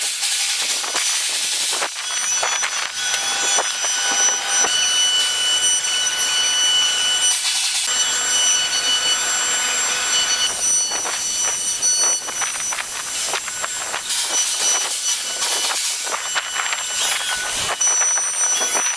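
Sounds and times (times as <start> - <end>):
rasping wood cutting: 2.0 - 18.9
router spindle whine: 2.0 - 18.9.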